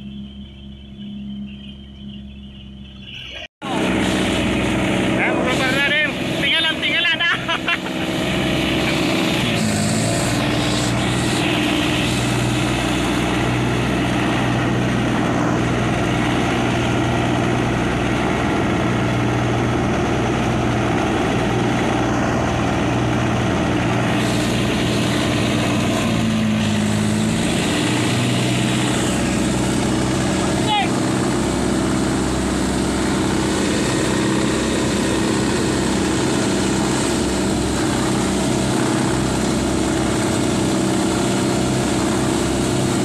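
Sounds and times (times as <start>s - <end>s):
diesel boat engine running: 0.0s - 43.0s
water rushing along hull: 3.6s - 43.0s.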